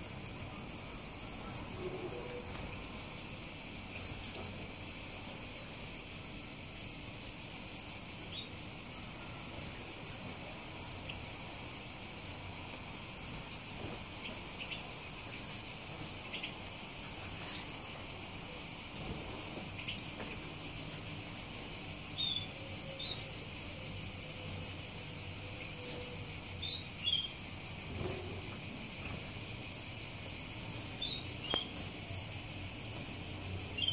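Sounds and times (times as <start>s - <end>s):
insect chorus drone: 0.0s - 33.9s.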